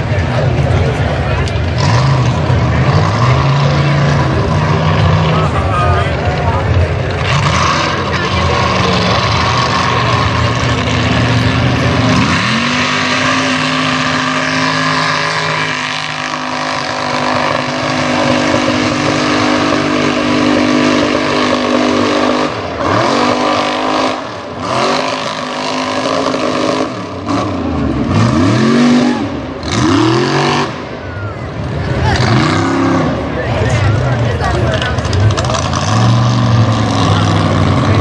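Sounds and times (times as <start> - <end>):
truck engine revving: 0.0 - 38.0.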